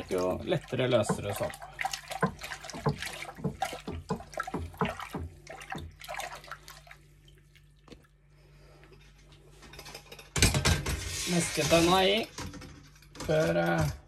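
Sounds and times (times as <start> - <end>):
water sloshing in a metal pot: 0.0 - 14.0.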